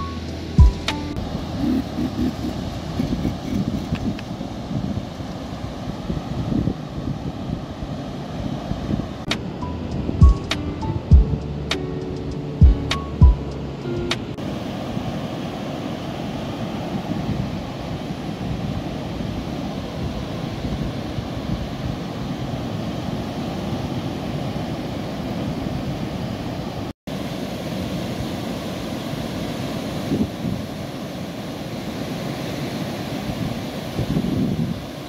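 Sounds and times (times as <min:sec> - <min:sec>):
ocean surf breaking on beach: 0:00.0 - 0:11.1, 0:13.6 - 0:35.0.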